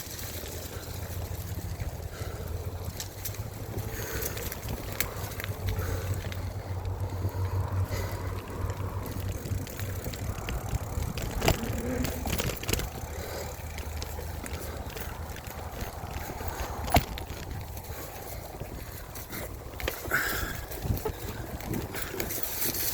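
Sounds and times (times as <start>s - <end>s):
bike clicks and rattles: 0.0s - 22.9s
bike tyres rumbling on dirt: 0.0s - 22.9s
wind on microphone: 3.4s - 13.2s, 14.0s - 22.8s.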